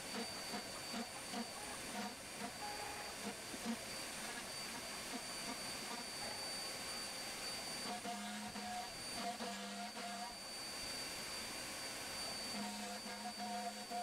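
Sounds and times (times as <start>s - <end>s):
cnc router hiss and whine: 0.0s - 14.0s.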